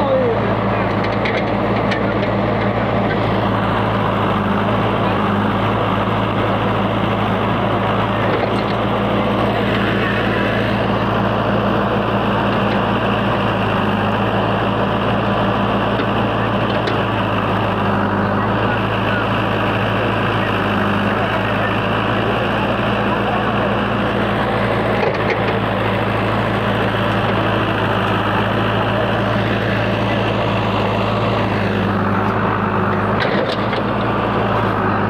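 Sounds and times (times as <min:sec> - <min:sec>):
diesel engine droning: 0:00.0 - 0:35.0.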